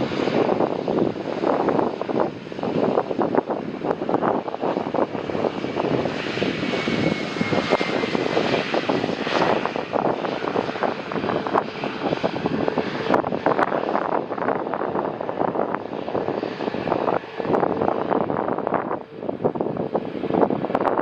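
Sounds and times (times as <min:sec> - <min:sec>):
jet airliner engines: 0:00.0 - 0:21.0
wind buffeting microphone: 0:00.0 - 0:21.0.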